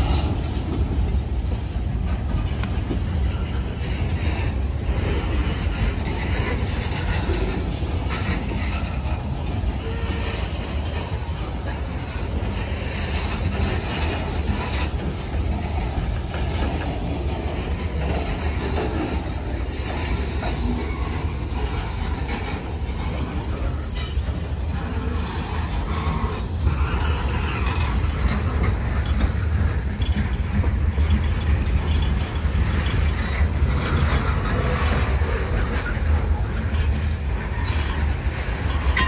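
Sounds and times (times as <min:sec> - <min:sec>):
train rumbling past: 0:00.0 - 0:39.0.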